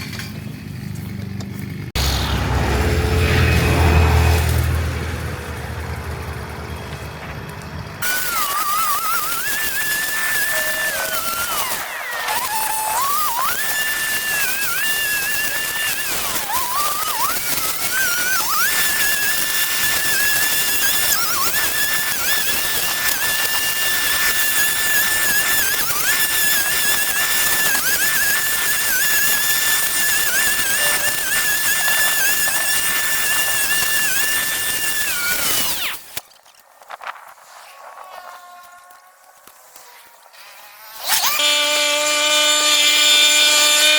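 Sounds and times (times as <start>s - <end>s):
power tool motor whining: 0.6s - 43.9s.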